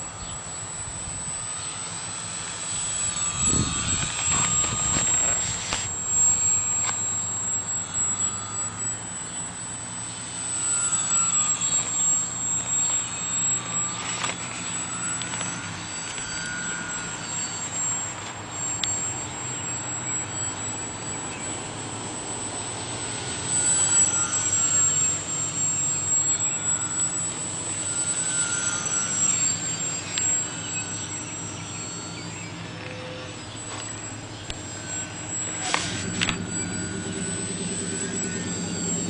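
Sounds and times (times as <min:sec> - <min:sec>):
model airplane motor whine: 0:00.0 - 0:39.0.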